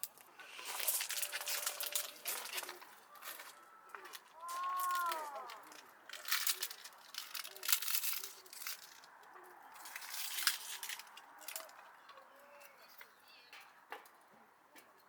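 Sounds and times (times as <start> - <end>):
rustling and crinkling handling noise: 0.0 - 15.0.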